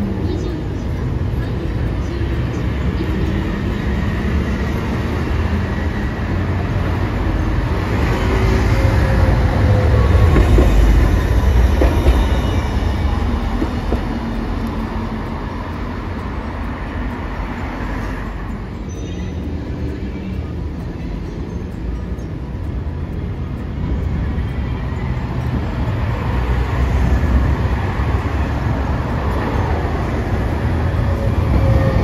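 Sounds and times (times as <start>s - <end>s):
tram rumbling past: 0.0s - 32.0s.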